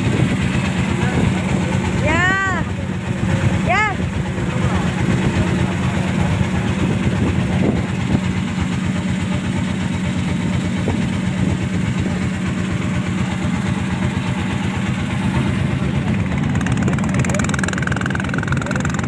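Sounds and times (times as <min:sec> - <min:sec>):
ship engine droning: 0:00.0 - 0:19.0.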